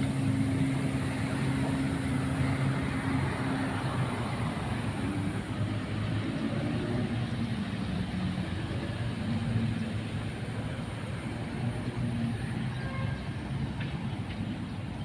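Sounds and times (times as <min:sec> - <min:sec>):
motorboat engine droning: 0:00.0 - 0:13.6.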